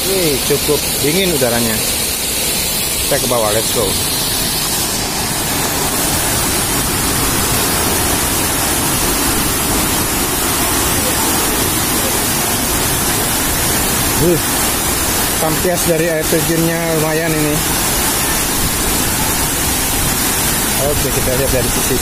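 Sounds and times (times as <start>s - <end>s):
waterfall rushing hiss: 0.0s - 22.0s.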